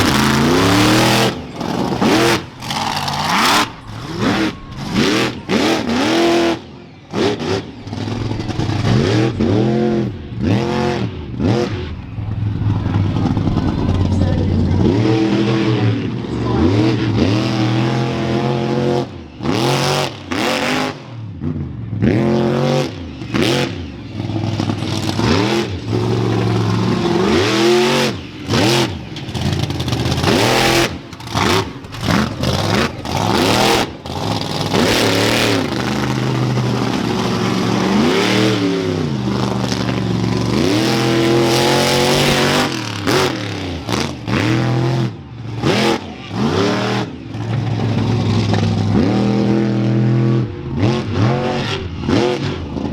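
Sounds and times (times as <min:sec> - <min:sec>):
monster truck engine revving: 0:00.0 - 0:52.9.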